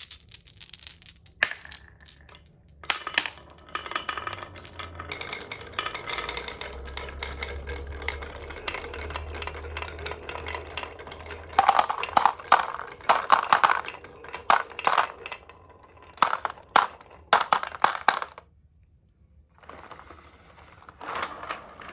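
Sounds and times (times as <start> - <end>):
marbles clicking and clacking: 0.0 - 18.5, 19.6 - 21.9
marbles rolling on a track: 0.0 - 18.5, 19.6 - 21.9.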